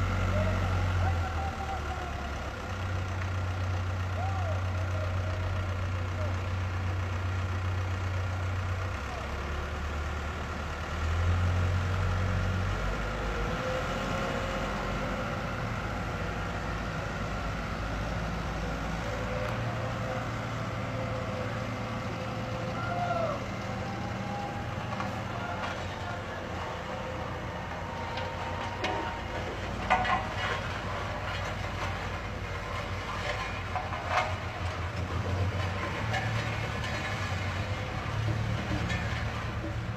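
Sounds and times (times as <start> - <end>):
diesel machinery engines running: 0.0 - 39.9.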